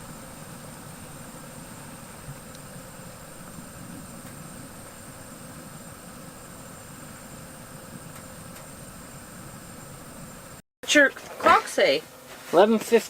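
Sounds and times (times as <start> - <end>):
mechanical hum and rush: 0.0 - 10.6
faint high whine: 0.0 - 13.0.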